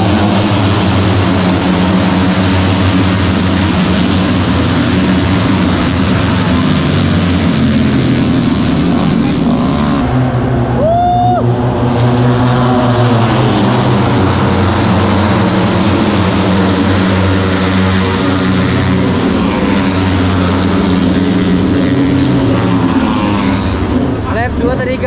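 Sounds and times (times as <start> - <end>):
race motorcycle engines droning: 0.0 - 25.0.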